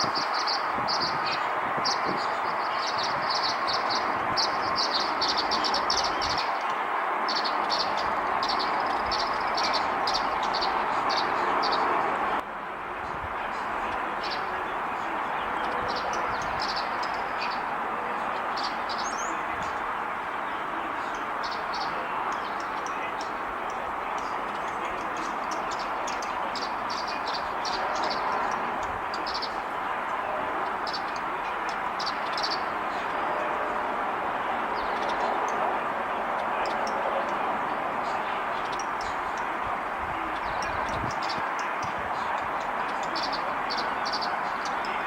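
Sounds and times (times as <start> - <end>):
songbirds chirping: 0.0 - 45.0.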